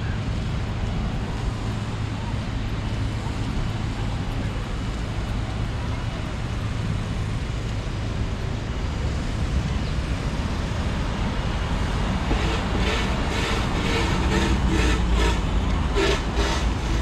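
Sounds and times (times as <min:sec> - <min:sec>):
cars passing rumble and hiss: 0:00.0 - 0:17.0.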